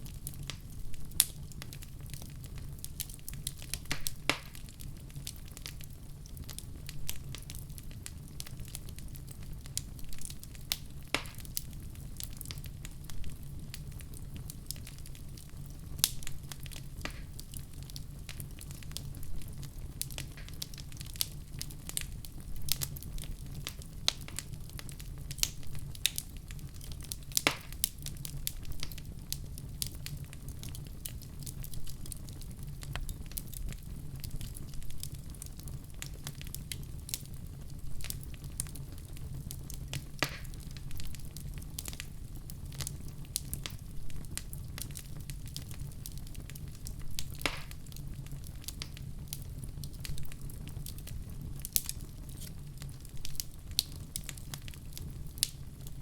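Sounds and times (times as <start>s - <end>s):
low rumble of fire: 0.0s - 56.0s
wood fire crackling and popping: 0.0s - 56.0s.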